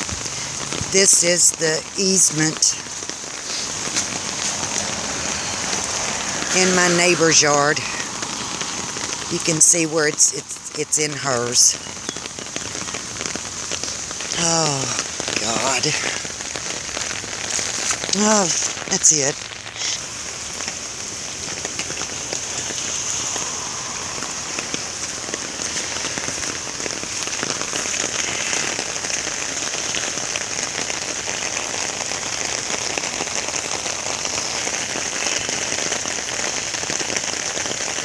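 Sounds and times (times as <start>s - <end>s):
rain on muddy ground: 0.0s - 38.0s.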